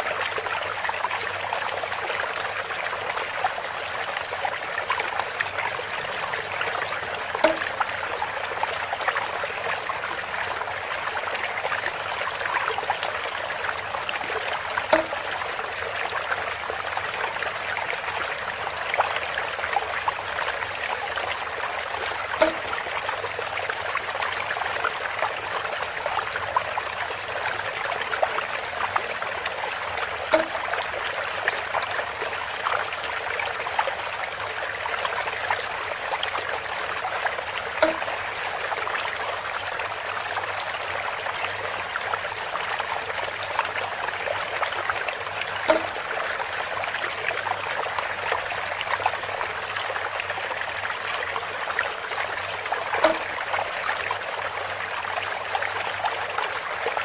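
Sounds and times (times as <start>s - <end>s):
water plink: 0.0s - 56.2s
water trickling from a spout: 0.0s - 57.0s.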